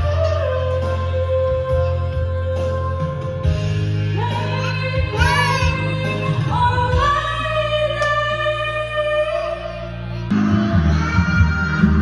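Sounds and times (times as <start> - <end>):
karaoke backing track: 0.0 - 12.0
person singing: 0.0 - 12.0.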